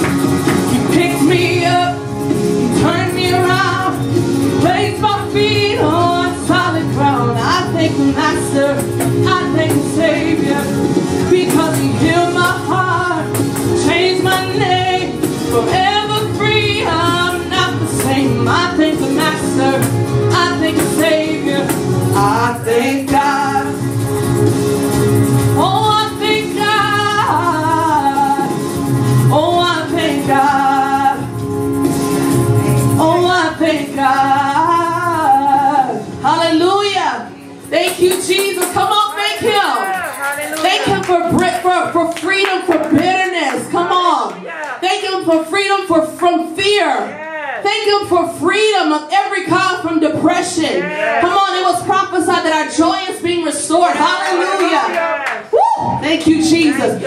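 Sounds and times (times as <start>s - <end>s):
woman singing gospel song: 0.0s - 23.9s, 25.6s - 31.4s, 32.8s - 57.0s
instrumental accompaniment with bass: 0.0s - 57.0s.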